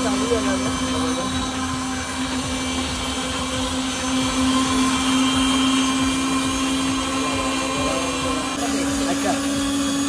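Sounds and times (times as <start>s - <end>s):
blender motor humming: 0.0s - 10.0s.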